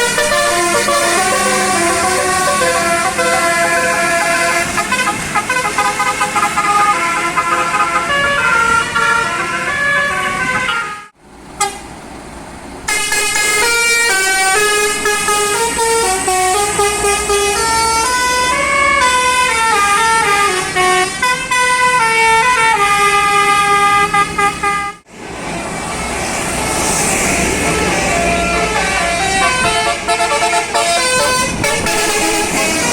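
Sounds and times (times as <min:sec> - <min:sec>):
bus air horn playing a tune: 0:00.0 - 0:11.9, 0:12.9 - 0:25.1, 0:27.9 - 0:32.9.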